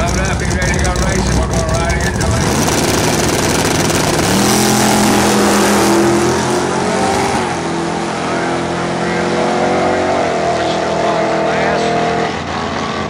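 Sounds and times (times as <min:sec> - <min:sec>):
truck engine at full throttle: 0:00.0 - 0:13.0.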